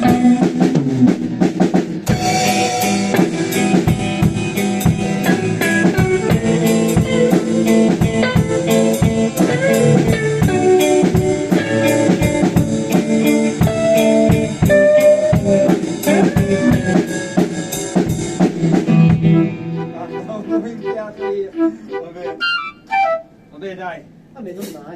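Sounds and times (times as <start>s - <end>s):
bass guitar: 0.0s - 22.2s
drum kit beat: 0.0s - 23.4s, 24.0s - 24.9s
guitar: 0.0s - 24.9s.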